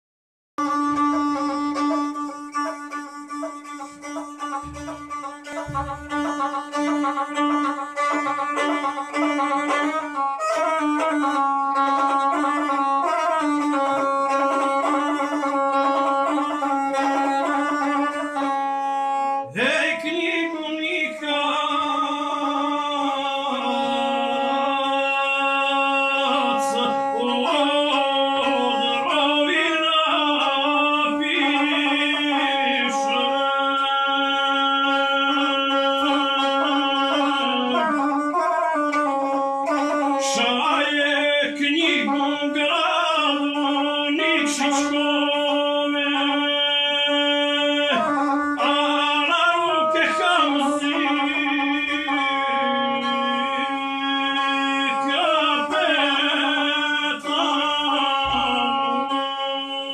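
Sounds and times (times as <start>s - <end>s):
man singing: 0.6s - 18.6s, 19.4s - 59.9s
bowed single-string fiddle: 0.6s - 59.9s.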